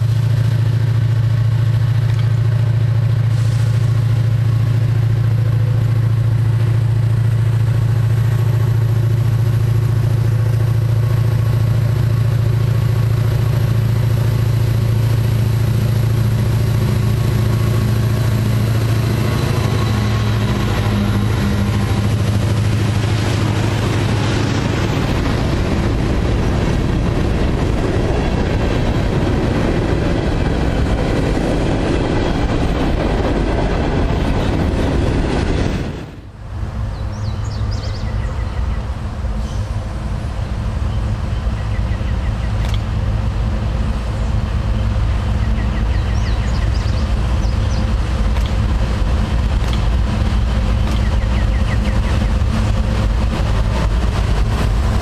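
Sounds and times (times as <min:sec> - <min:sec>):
diesel locomotive engine drone: 0:00.0 - 0:55.0
freight train rumbling and clattering: 0:00.0 - 0:55.0.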